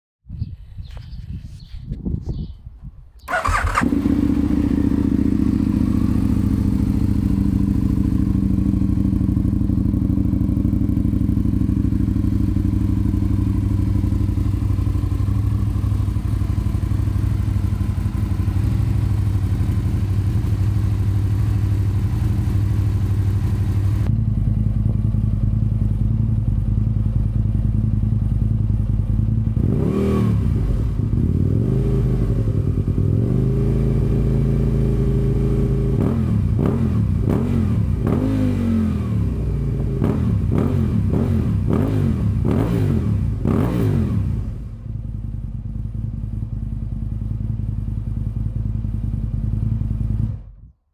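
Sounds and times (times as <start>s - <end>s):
motorcycle throttle blips: 3.2s - 50.7s
motorcycle engine idling: 3.2s - 50.9s.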